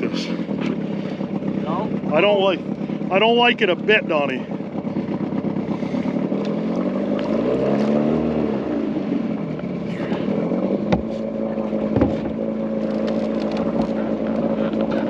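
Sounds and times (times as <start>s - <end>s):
small boat motor running: 0.0s - 15.0s.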